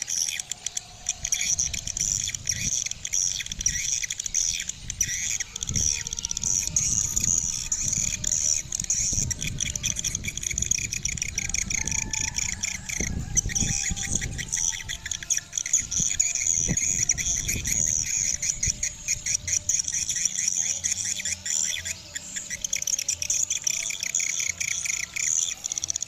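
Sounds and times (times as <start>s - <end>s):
swiftlets twittering: 0.0s - 26.0s.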